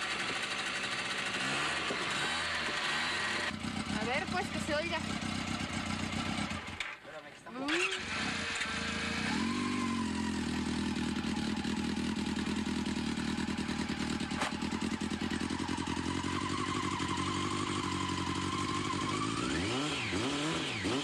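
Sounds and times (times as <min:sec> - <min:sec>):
motorcycle engine idling: 0:00.0 - 0:06.9, 0:07.6 - 0:19.6.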